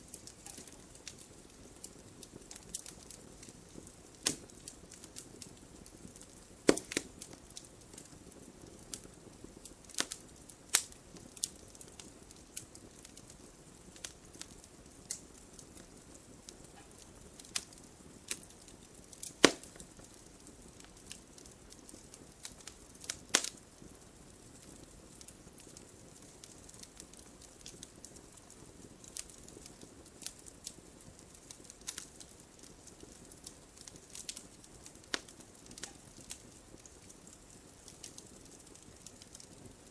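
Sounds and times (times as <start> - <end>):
soft hiss of flame: 0.0 - 39.9
wood fire crackling and popping: 0.0 - 39.9.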